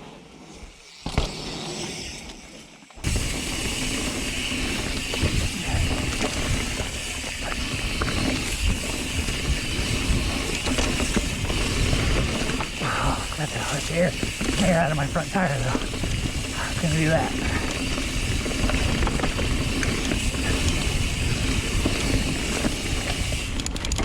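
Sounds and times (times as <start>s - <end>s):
mountain bike trail rumbling: 0.0s - 24.0s
bike clicks: 2.2s - 24.0s.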